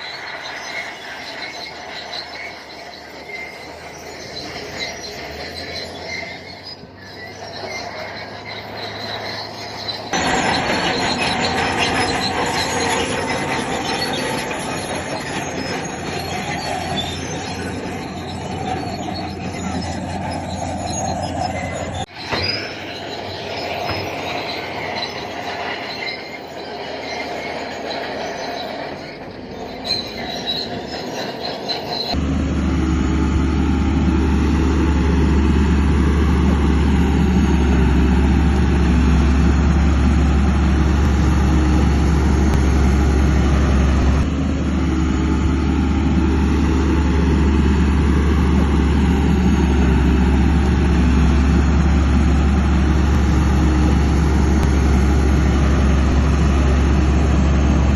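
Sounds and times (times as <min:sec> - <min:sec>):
bulldozer tracks squealing: 0:00.0 - 0:57.9
diesel engine droning: 0:00.0 - 0:57.9.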